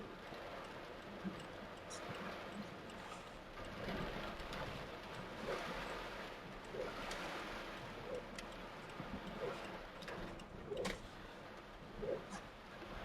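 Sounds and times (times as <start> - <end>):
raindrops ticking: 0.0 - 7.3, 7.9 - 11.9.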